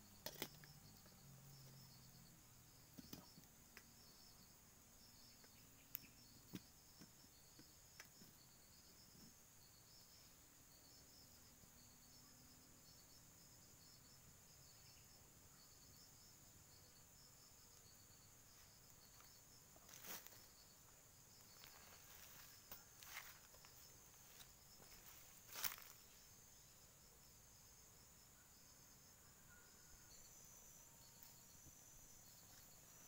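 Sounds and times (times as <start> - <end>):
constant high hiss: 0.0 - 33.0
insects chirping: 0.0 - 33.0.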